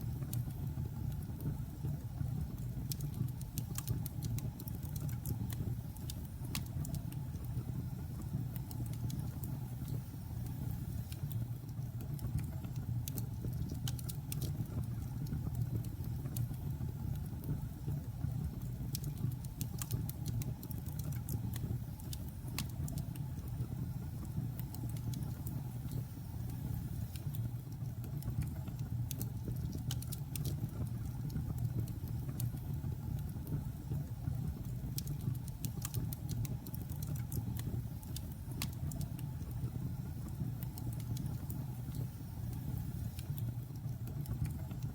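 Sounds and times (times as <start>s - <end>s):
fire crackling and popping: 0.0s - 44.9s
low rumble of fire: 0.0s - 44.9s.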